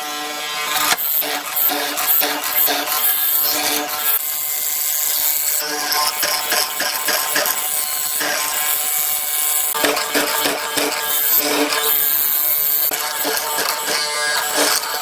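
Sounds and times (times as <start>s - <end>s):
small power tool working wood: 0.0s - 15.0s.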